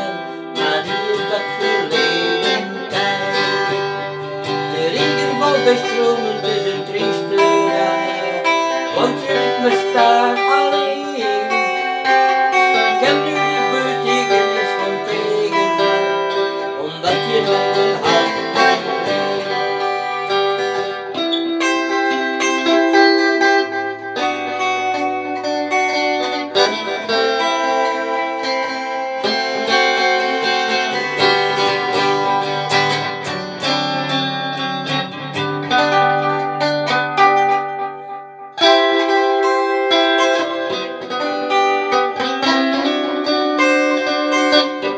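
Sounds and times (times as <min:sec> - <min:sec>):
plucked guitar melody: 0:00.0 - 0:44.9.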